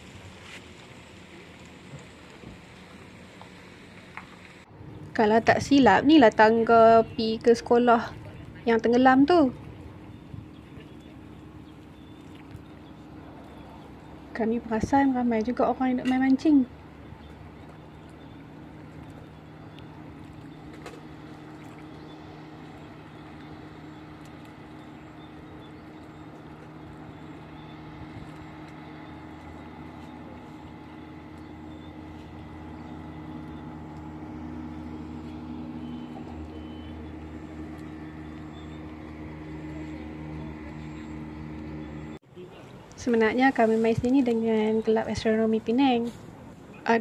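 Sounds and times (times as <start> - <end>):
engine droning: 0.0 - 47.0.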